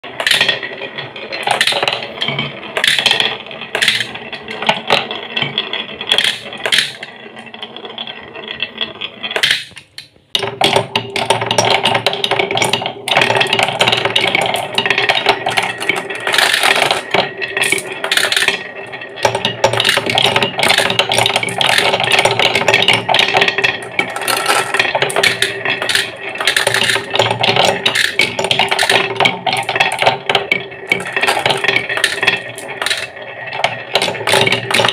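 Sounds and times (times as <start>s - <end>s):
marbles clacking down wooden track: 0.0s - 34.9s
marbles rolling in wooden bowl: 0.0s - 34.9s.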